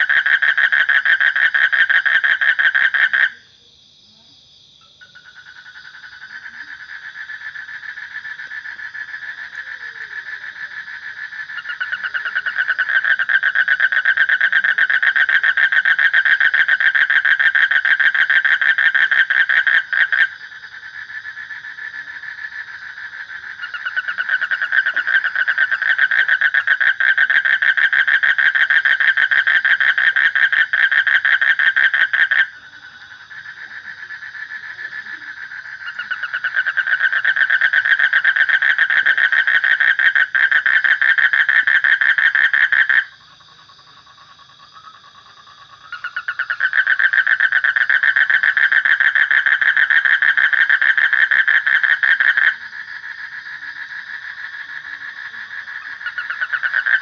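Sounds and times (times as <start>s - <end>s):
frog trilling: 0.0s - 3.4s, 4.9s - 57.0s.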